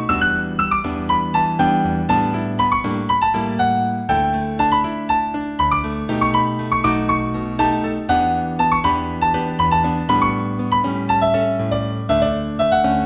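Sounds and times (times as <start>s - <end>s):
new age piano music: 0.0s - 13.0s.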